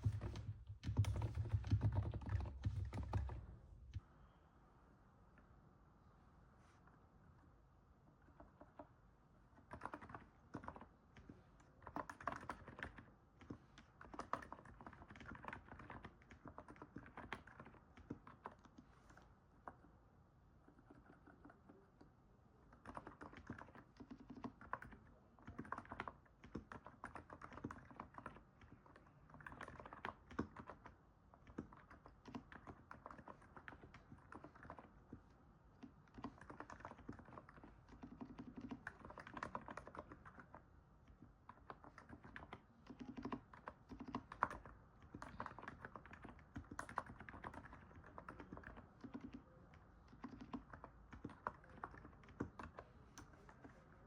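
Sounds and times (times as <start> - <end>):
soft keyboard keystrokes: 0.0 - 4.1, 8.3 - 19.9, 20.6 - 54.0.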